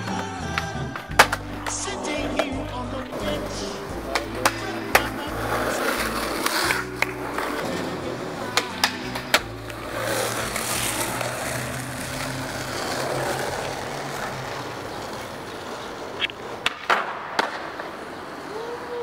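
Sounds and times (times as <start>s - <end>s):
skateboard clacks: 0.0s - 19.0s
skateboard wheels rolling on asphalt: 0.0s - 19.0s.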